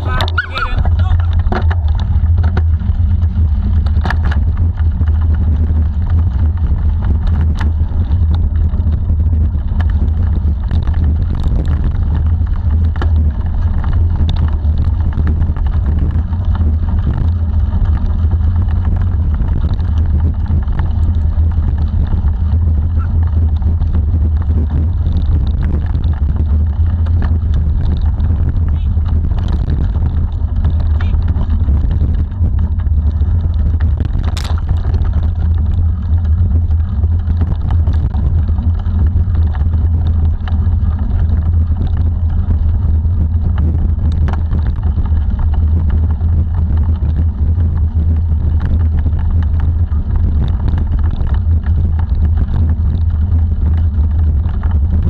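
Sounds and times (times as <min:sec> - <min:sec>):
bicycle tyres rolling on dirt: 0:00.0 - 0:55.0
bike clicks and rattles: 0:00.0 - 0:55.0
wind noise on microphone: 0:00.0 - 0:55.0.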